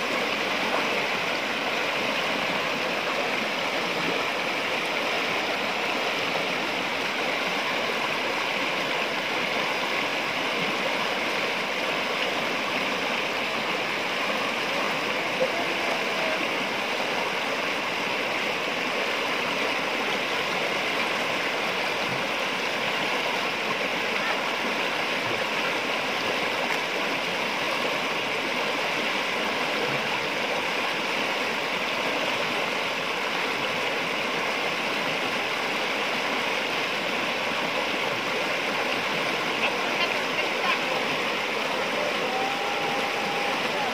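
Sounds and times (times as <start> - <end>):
river rapids rushing over boulders: 0.0 - 43.9.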